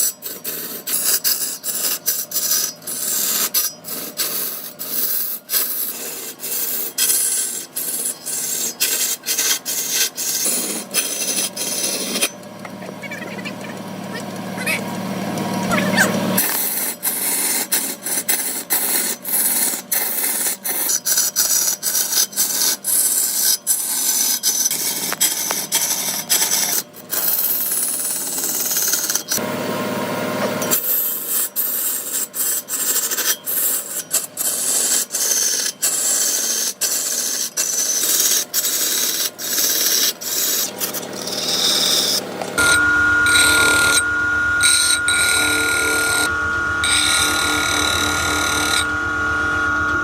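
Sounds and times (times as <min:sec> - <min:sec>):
wood rasping: 0:00.0 - 0:14.8, 0:15.6 - 0:29.4, 0:30.7 - 0:44.0, 0:44.6 - 0:48.9.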